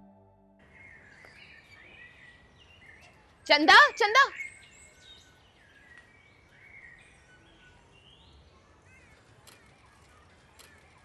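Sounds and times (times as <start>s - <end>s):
birds chirping: 0.6s - 11.0s.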